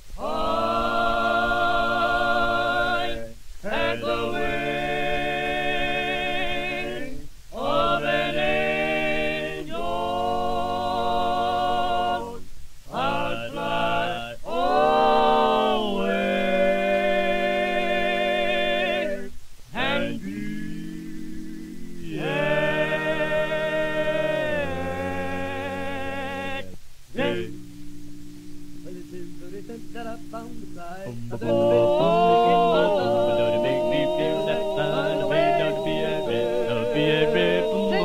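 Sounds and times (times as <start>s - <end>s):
choir singing a cappella: 0.0s - 38.0s.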